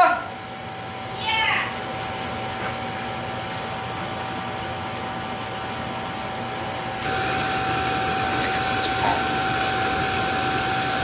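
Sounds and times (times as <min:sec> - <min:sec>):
oil burner rushing and whining: 0:00.3 - 0:11.0.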